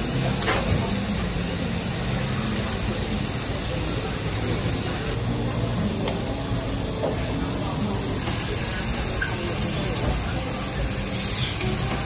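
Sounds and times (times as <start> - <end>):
food sizzling on griddle: 0.0 - 12.0.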